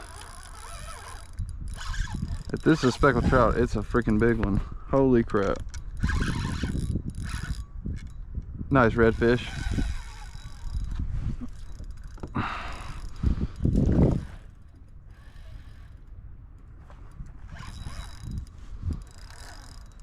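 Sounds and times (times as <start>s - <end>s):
fishing reel ratcheting: 0.0s - 20.0s.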